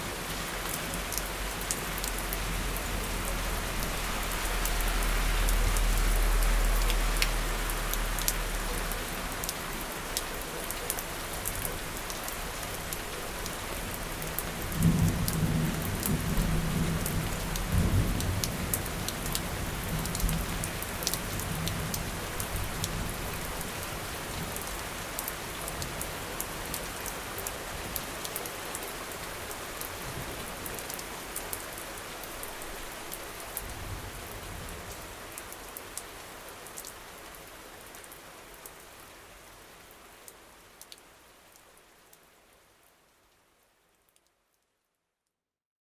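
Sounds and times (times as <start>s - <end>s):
rain drops pattering: 0.0s - 44.8s.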